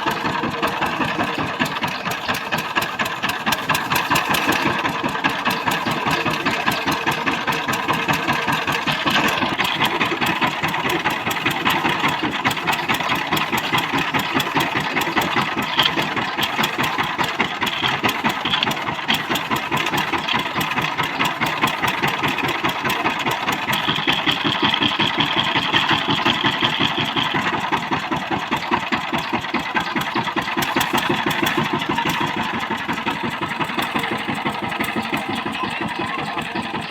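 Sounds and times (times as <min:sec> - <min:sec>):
diesel engine chugging: 0:00.0 - 0:36.9.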